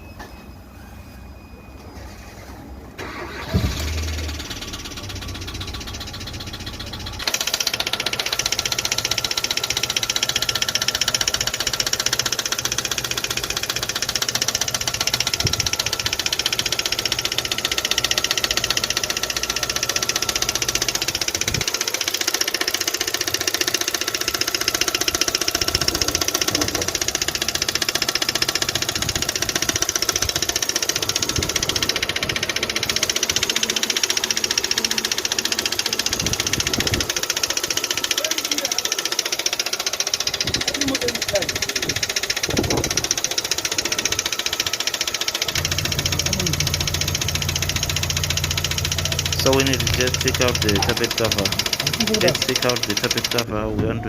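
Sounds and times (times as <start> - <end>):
car engine starting and running: 1.4 - 54.0
metallic engine knocking: 4.2 - 53.6.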